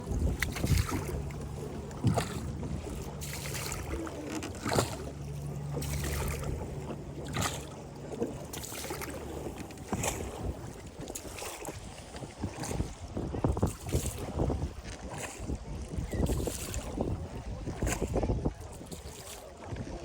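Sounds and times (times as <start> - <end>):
boat engine droning: 0.0 - 20.0
wind and water rushing: 0.0 - 20.0.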